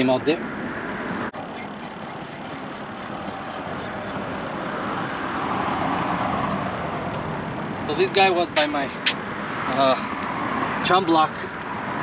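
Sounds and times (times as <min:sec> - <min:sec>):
highway traffic noise: 0:00.0 - 0:12.0
vehicle passing: 0:00.0 - 0:12.0.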